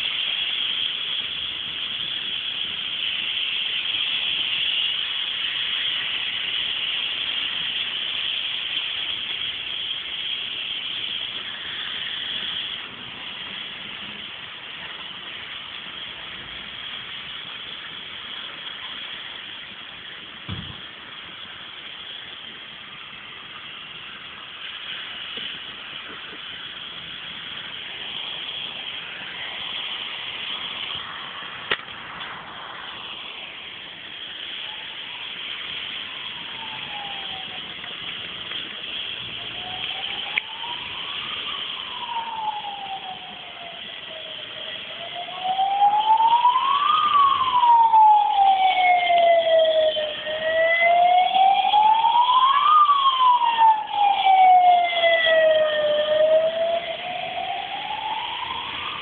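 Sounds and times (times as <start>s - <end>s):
emergency vehicle siren wailing: 0.0s - 59.0s
steady background hiss: 0.0s - 59.0s.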